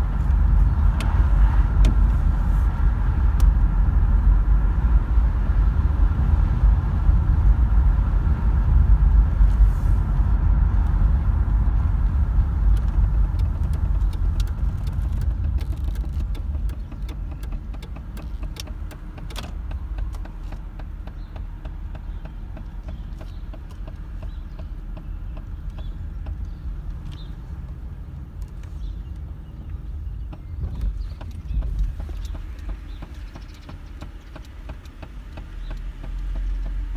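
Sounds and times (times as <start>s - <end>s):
car engine idling with knock: 0.0s - 36.9s
heavy low rumble: 0.0s - 36.9s.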